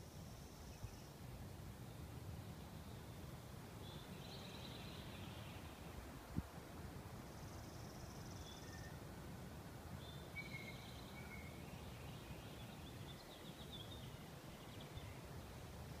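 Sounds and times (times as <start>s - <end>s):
songbird chirps: 0.0s - 6.4s, 7.1s - 9.2s, 9.8s - 16.0s.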